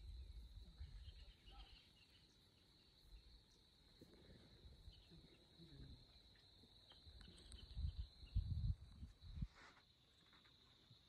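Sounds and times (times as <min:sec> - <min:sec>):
faint insect chorus: 0:00.0 - 0:11.0.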